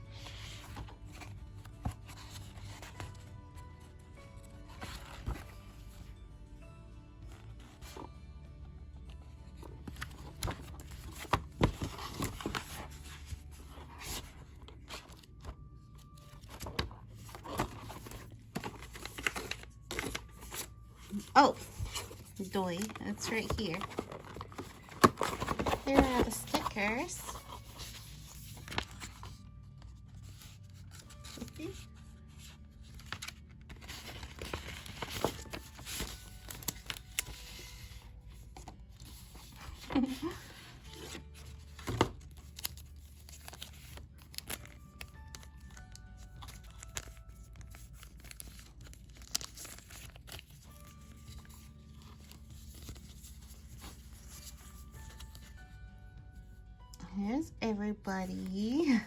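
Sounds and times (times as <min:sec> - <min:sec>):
paper rustling and crinkling: 0:00.0 - 0:06.1, 0:07.2 - 0:08.2, 0:09.1 - 0:55.8.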